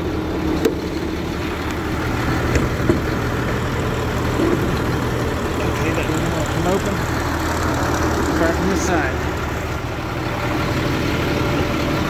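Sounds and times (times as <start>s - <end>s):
diesel engines idling: 0.0s - 12.0s.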